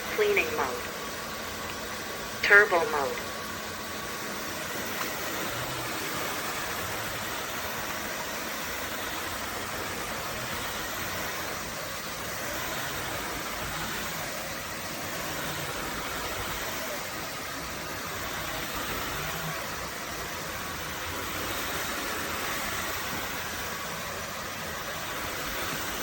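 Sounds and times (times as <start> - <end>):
vacuum mop motor running: 3.2 - 26.0.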